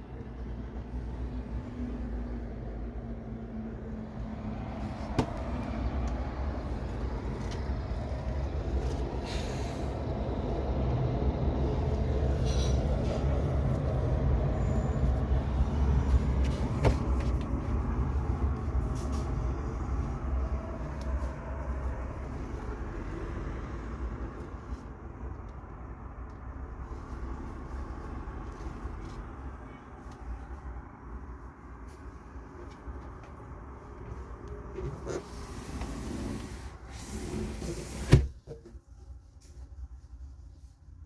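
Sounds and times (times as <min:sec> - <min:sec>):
passing traffic rumble: 0:00.0 - 0:38.2.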